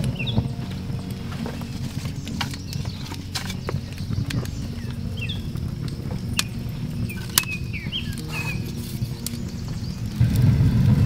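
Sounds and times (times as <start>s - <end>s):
birds chirping: 0.0s - 11.0s
fire crackling: 0.0s - 11.0s
low rumble: 0.0s - 11.0s
sharp pops of fire: 0.0s - 11.0s.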